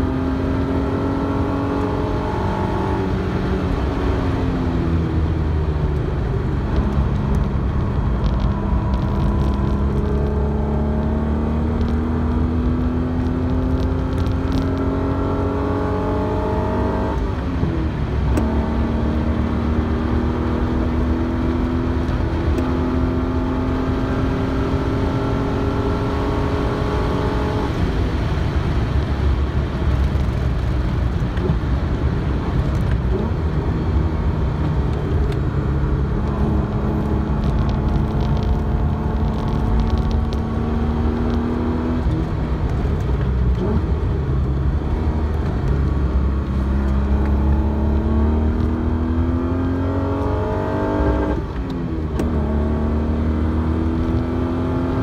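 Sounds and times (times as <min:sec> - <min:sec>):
car engine revving through gears: 0:00.0 - 0:55.0
road and wind noise: 0:00.0 - 0:55.0.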